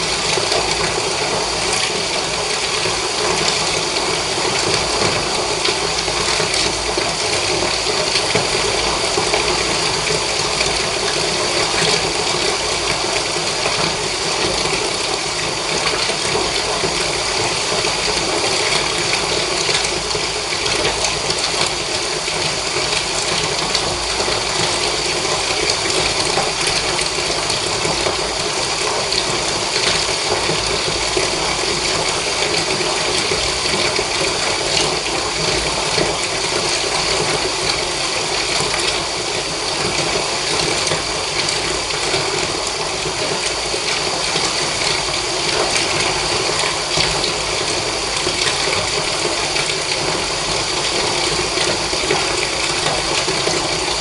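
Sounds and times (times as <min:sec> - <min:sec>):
water running into a bath: 0:00.0 - 0:54.0.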